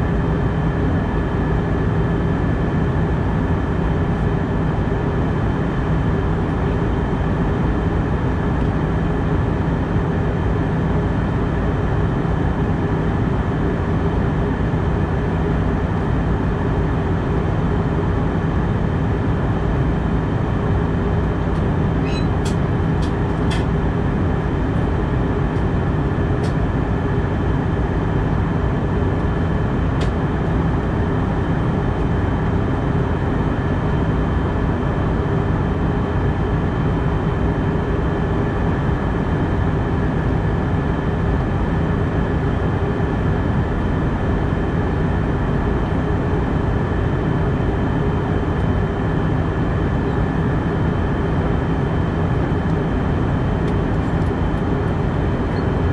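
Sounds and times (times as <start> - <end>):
airplane cabin drone: 0.0 - 55.9.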